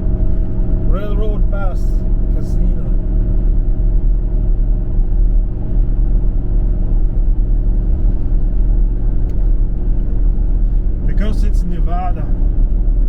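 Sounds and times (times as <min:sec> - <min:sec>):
car engine and tyres droning: 0:00.0 - 0:13.0.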